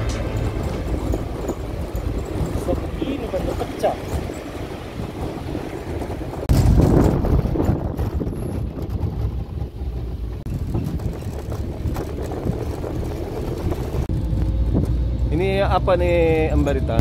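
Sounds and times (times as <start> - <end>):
vehicle engine rumble: 0.0 - 17.0
wind buffeting microphone: 0.0 - 17.0.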